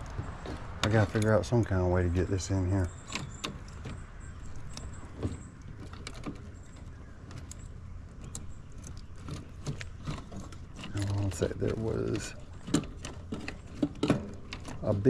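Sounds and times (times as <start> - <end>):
clicks and rattles of metal parts: 0.0 - 15.0.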